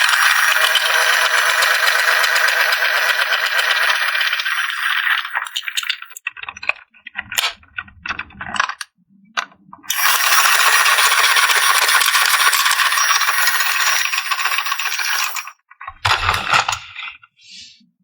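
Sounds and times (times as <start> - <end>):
plastic toy parts rattling: 0.0 - 17.3.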